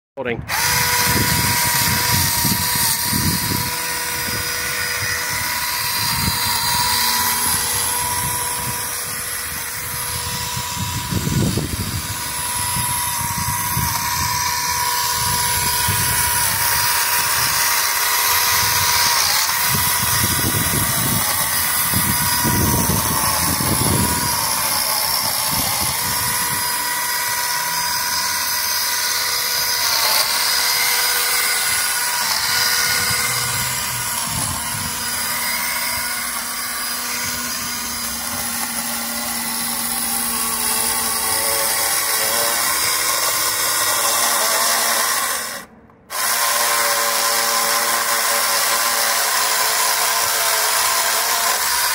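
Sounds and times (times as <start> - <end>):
mini chainsaw motor whine: 0.5 - 51.9.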